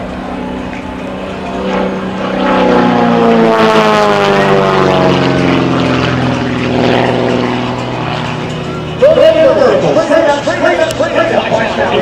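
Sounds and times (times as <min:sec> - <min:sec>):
plane piston engine and propeller: 0:00.0 - 0:12.0.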